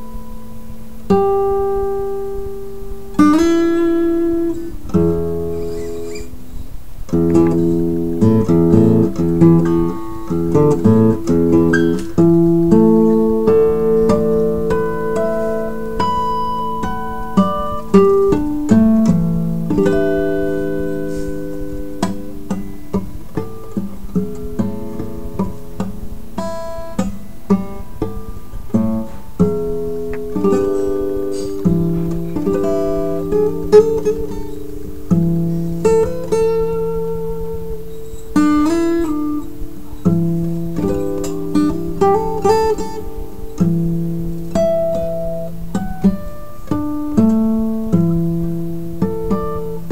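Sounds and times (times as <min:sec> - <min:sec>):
acoustic guitar picked melody: 0:00.0 - 0:49.9.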